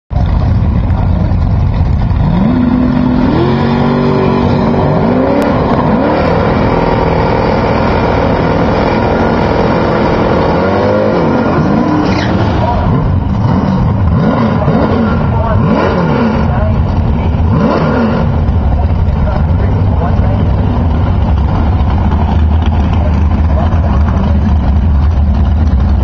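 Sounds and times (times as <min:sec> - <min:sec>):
race car engines revving: 0:00.1 - 0:26.0
tyres spinning in burnout: 0:00.2 - 0:26.0.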